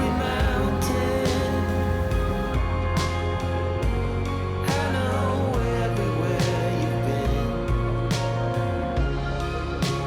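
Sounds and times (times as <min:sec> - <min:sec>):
song with beat and singing: 0:00.0 - 0:10.0.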